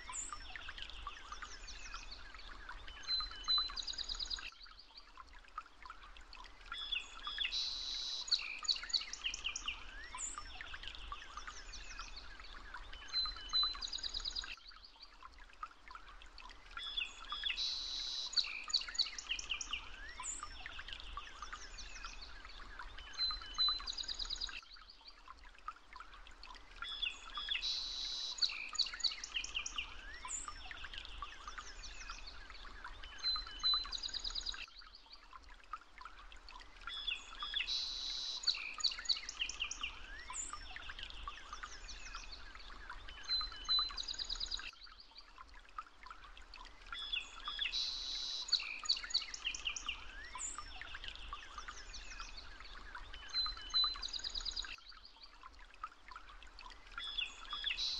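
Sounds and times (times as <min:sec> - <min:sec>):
soft steady hiss: 0:00.0 - 0:57.9.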